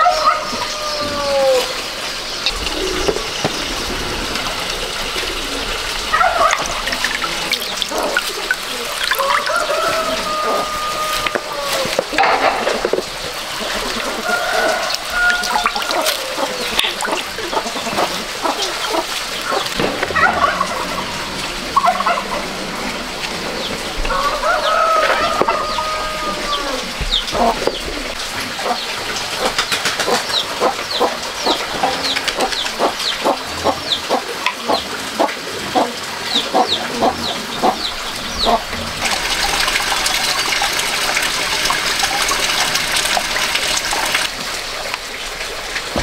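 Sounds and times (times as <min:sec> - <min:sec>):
fowl calling: 0:00.0 - 0:03.9, 0:04.6 - 0:44.4
lemons squelching and dripping: 0:00.0 - 0:46.0.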